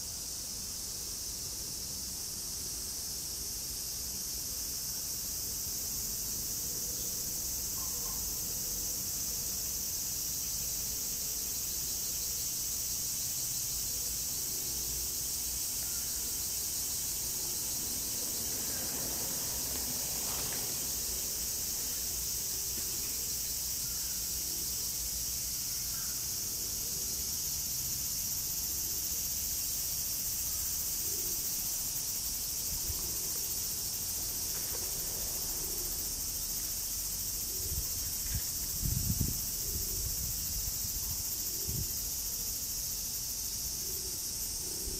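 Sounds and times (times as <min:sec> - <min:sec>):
insects chorus shrill hiss: 0:00.0 - 0:44.9.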